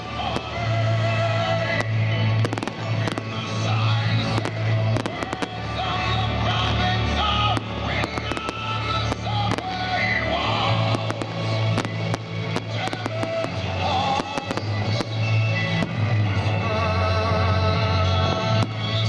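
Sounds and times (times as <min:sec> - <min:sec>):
fireworks bangs and crackles: 0:00.0 - 0:16.8, 0:17.8 - 0:19.0
loud music with heavy bass: 0:00.0 - 0:19.0.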